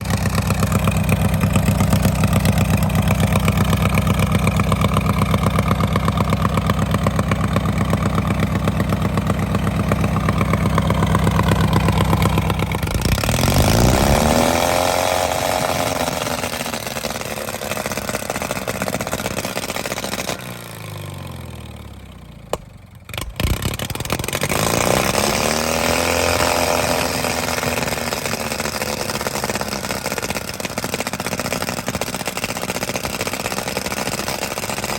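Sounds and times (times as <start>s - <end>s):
lawnmower engine revving: 0.0s - 34.9s.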